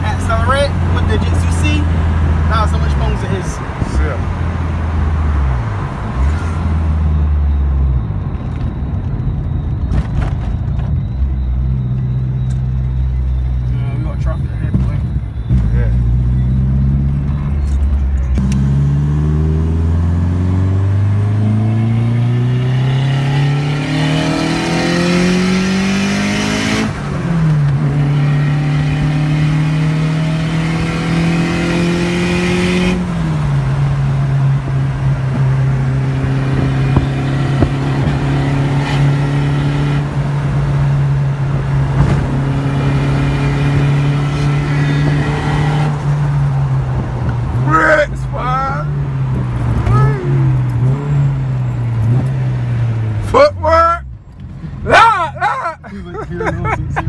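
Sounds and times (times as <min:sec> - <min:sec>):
car engine pulling hard: 0:00.0 - 0:57.0.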